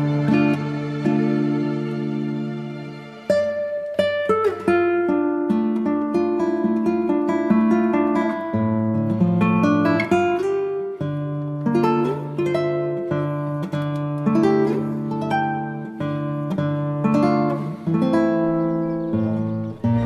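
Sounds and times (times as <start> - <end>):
acoustic guitar picking chords: 0.0 - 20.0.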